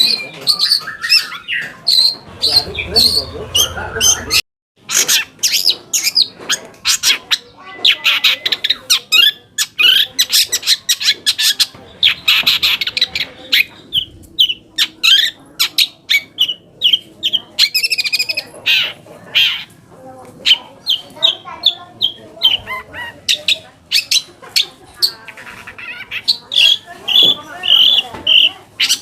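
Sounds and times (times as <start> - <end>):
shrike harsh chattering song: 0.0 - 19.8, 20.4 - 29.0.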